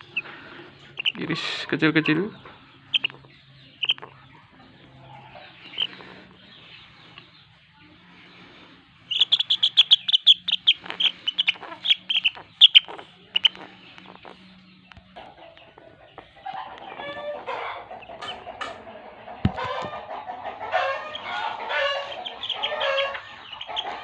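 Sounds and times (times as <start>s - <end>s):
young chicken chirping: 0.0s - 8.0s, 8.8s - 24.0s.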